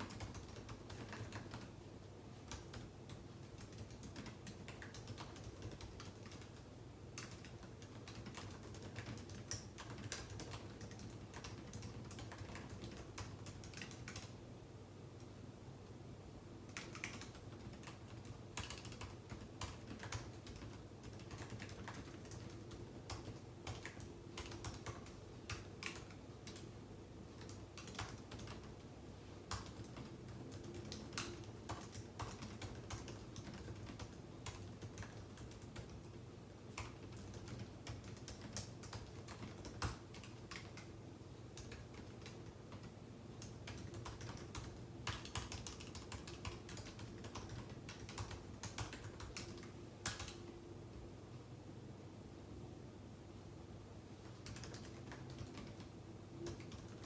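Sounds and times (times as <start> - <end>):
keyboard typing clicks: 0.0 - 1.7, 2.4 - 14.4, 16.7 - 28.9, 29.5 - 40.9, 41.5 - 50.6, 54.2 - 57.0
steady low hum: 0.0 - 57.0.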